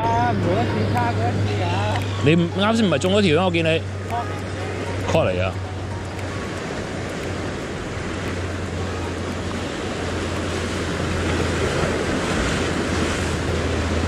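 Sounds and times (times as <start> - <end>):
ocean swell washing around rocks: 0.0 - 14.0.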